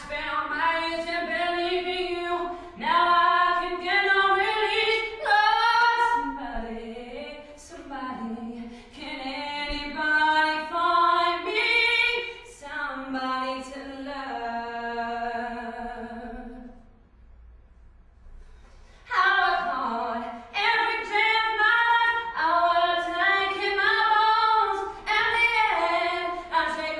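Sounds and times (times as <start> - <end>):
woman singing unaccompanied: 0.0 - 16.8, 19.1 - 26.9.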